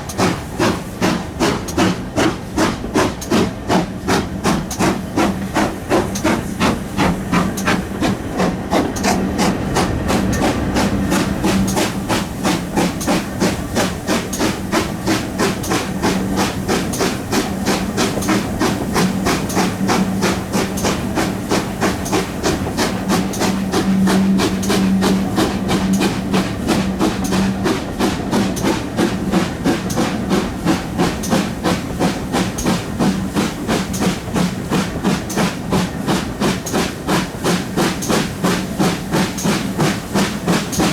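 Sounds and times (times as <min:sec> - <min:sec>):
steam locomotive exhaust beating: 0:00.0 - 0:40.9.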